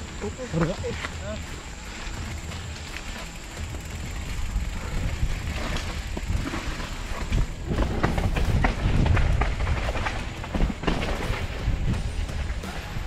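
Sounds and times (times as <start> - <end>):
bike frame and chain rattling: 0.0 - 13.0
bike tyres rumbling on rocky trail: 0.0 - 13.0.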